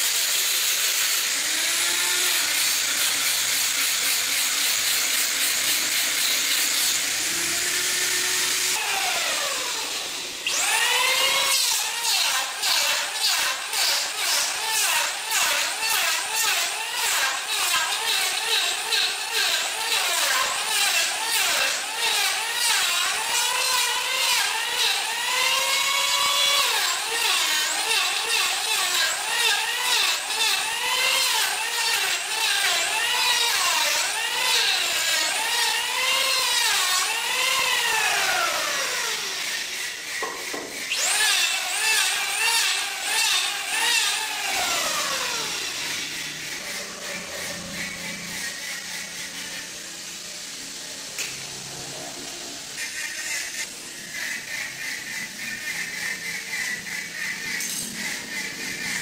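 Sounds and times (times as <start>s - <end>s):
electric planer shaving wood: 0.0s - 59.0s.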